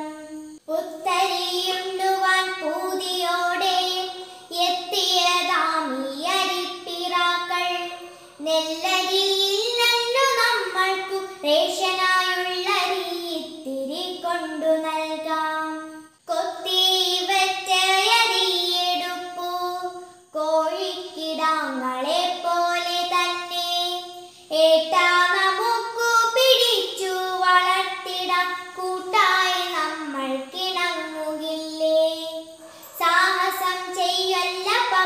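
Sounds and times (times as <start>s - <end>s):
girl singing unaccompanied: 0.0s - 35.0s.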